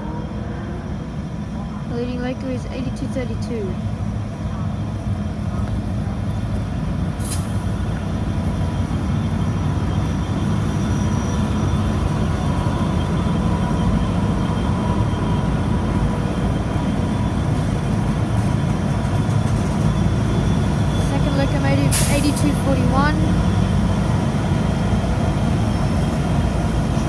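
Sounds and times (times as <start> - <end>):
locomotive engine rumbling: 0.0 - 27.0.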